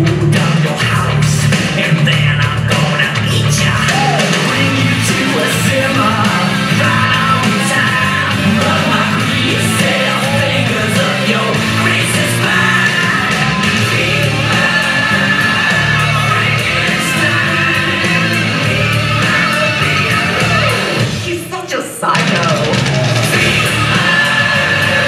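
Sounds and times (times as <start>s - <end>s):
loud rock music with singing: 0.0s - 25.0s.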